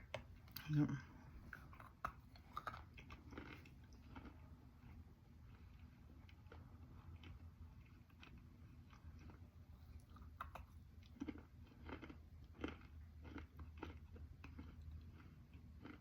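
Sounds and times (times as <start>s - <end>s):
low steady hum: 0.0s - 16.0s
chewing crunches: 1.4s - 16.0s.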